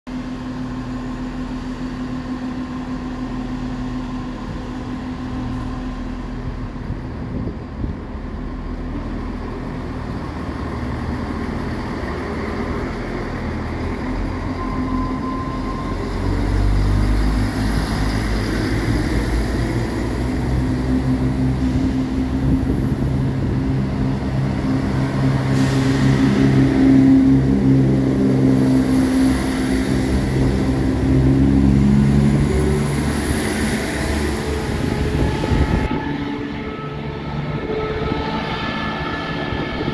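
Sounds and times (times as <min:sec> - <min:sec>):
diesel train engine hum: 0:00.1 - 0:39.9.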